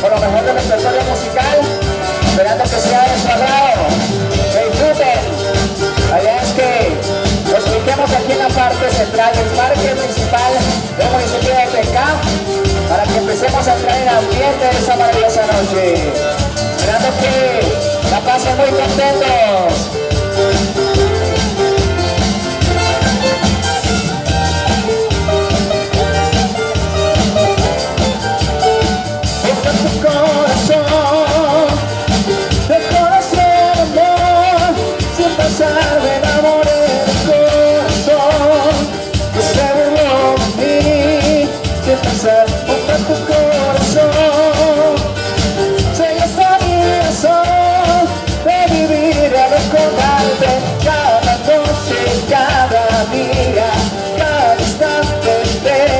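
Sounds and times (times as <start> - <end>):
latin band playing live: 0.0 - 55.9
person singing: 0.0 - 55.9.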